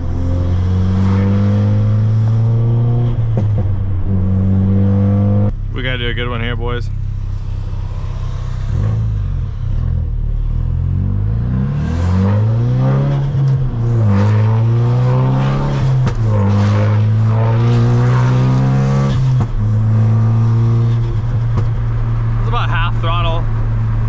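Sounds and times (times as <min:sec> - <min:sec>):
car engine accelerating hard: 0:00.0 - 0:05.5, 0:07.0 - 0:24.0.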